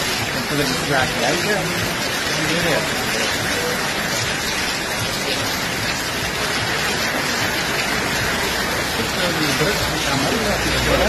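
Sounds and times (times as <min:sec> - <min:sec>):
heavy rain on a wet street: 0:00.0 - 0:11.0.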